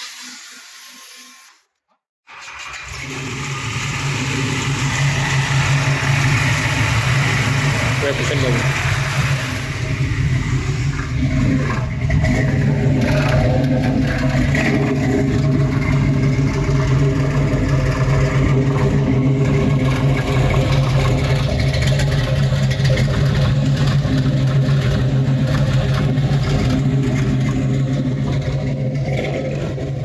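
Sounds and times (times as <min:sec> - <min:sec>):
car engine droning: 0:02.8 - 0:30.0.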